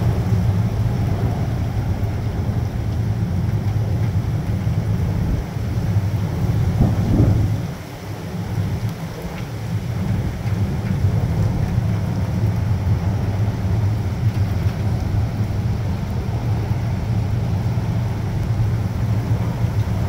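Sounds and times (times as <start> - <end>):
hurricane wind and rain roar: 0.0 - 20.0.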